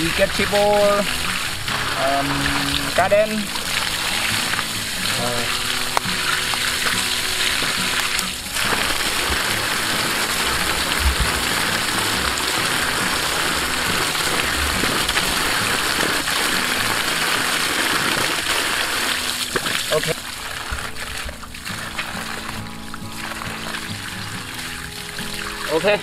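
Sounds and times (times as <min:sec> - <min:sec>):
water gushing from a pipe: 0:00.0 - 0:26.0
water splashing on ground: 0:00.0 - 0:26.0.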